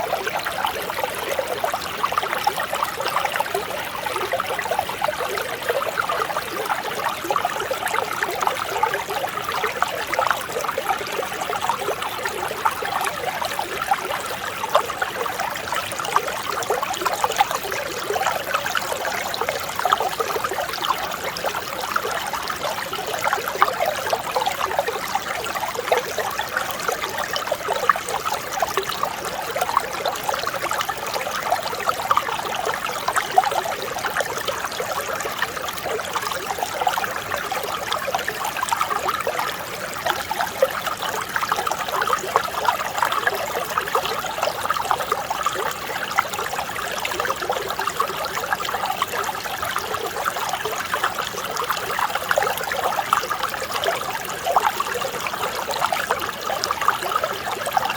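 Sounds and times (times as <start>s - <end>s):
stream trickling over rocks: 0.0s - 57.9s.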